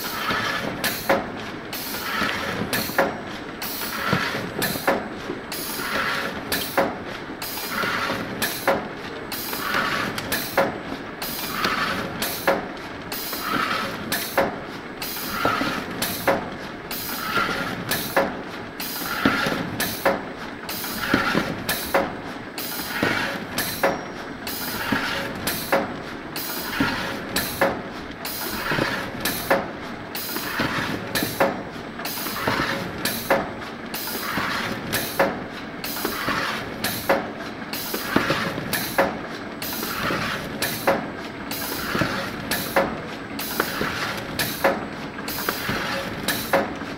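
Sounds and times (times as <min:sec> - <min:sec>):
pneumatic machine clacks: 0:00.0 - 0:46.9.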